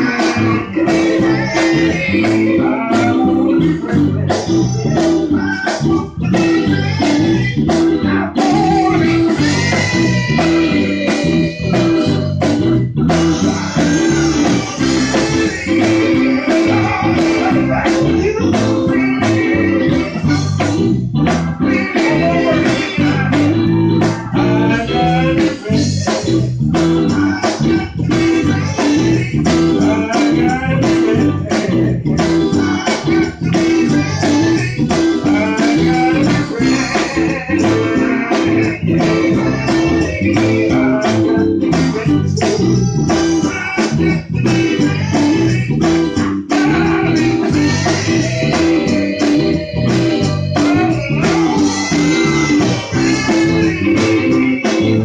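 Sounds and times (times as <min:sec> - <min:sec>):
band with guitar and bass: 0:00.0 - 0:55.0
men singing gospel: 0:00.0 - 0:55.0.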